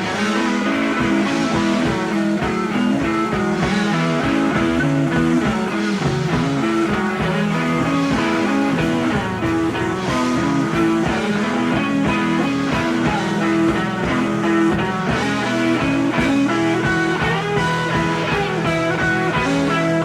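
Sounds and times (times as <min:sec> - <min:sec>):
rock music with guitar: 0:00.0 - 0:20.0.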